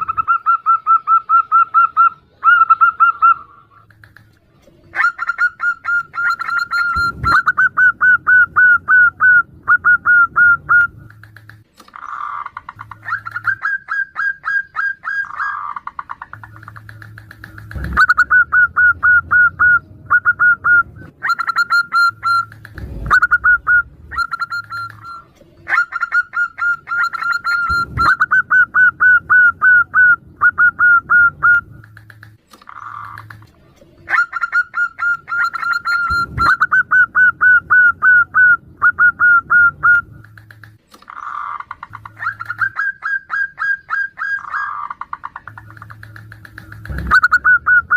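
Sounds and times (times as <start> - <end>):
doves calling: 0.0 - 47.9.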